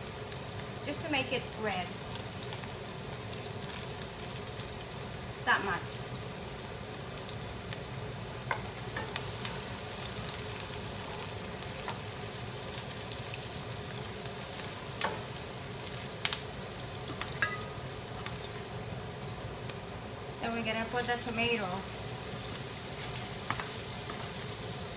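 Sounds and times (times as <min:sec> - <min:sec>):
vegetables sizzling in oil: 0:00.0 - 0:24.9.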